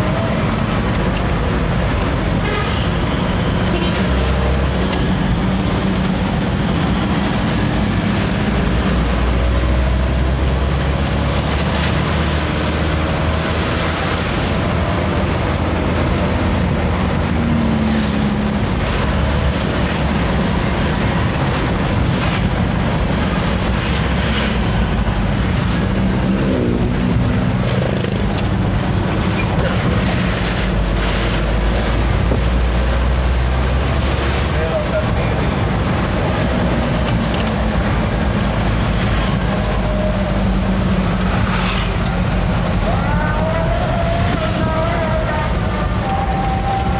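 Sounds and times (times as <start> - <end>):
truck engine and road noise: 0.0 - 46.9.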